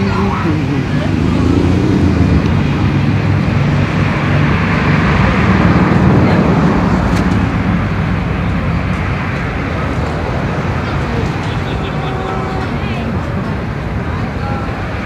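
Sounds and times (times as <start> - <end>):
tyres on road: 0.0 - 15.0
vehicle engines running: 0.0 - 15.0.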